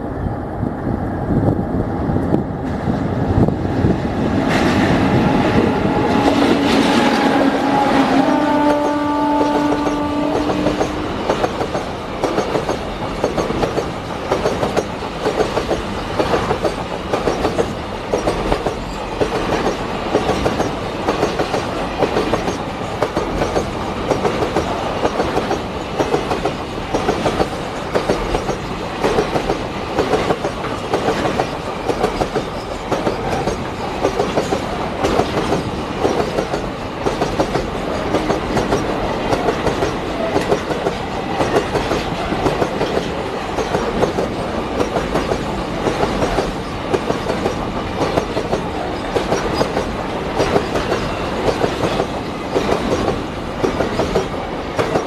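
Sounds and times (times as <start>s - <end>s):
freight train rumble: 0.0s - 55.0s.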